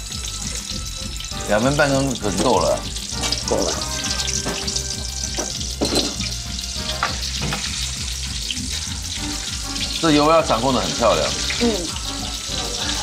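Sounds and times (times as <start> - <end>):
shrimp sizzling in hot oil: 0.0 - 13.0
utensils clattering in pan: 1.8 - 13.0.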